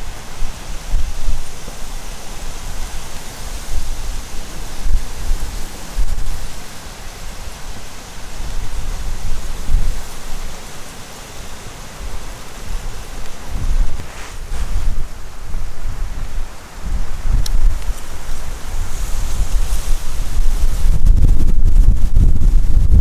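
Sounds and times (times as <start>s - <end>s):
wind buffeting microphone: 0.0s - 10.7s, 11.4s - 23.0s
steady rushing hiss: 0.0s - 23.0s.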